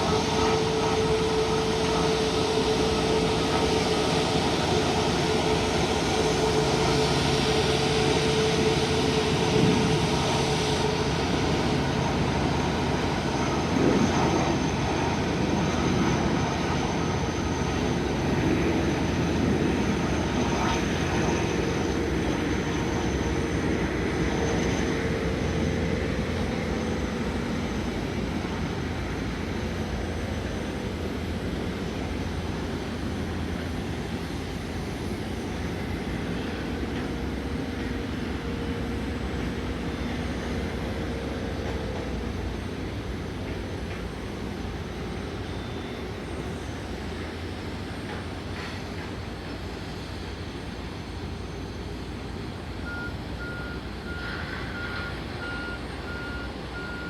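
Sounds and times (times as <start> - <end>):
jet engines roaring with whine: 0.0 - 57.0.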